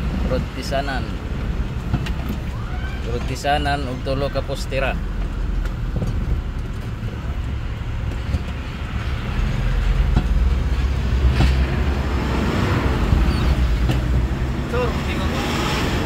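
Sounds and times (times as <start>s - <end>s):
diesel engine rumble: 0.0s - 16.0s
road noise: 0.0s - 16.0s.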